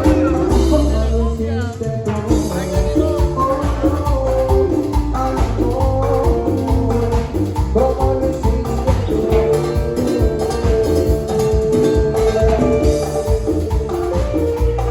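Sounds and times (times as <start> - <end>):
live cumbia band playing: 0.0 - 14.9.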